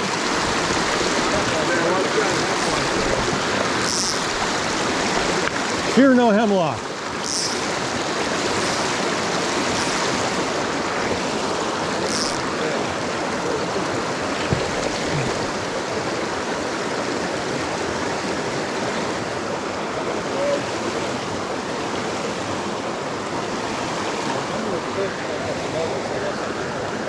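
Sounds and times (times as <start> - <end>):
stream rushing over rocks: 0.0 - 27.0.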